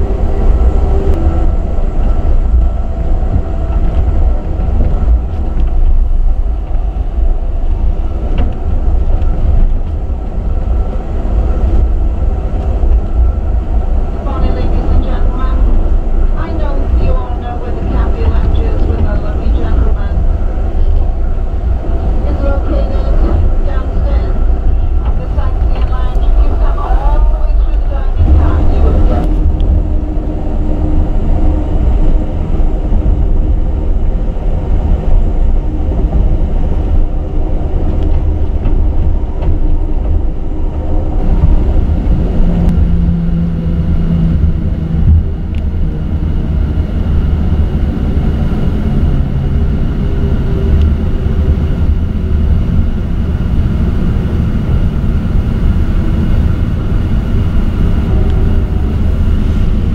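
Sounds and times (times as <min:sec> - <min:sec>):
low hum: 0:00.0 - 0:59.9
train car body drone: 0:00.0 - 0:59.9
train wheels on rails: 0:00.0 - 0:59.9.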